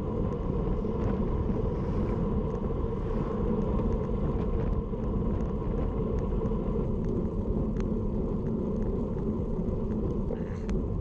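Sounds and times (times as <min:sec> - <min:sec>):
road rumble: 0:00.0 - 0:11.0
wind buffeting microphone: 0:00.0 - 0:11.0.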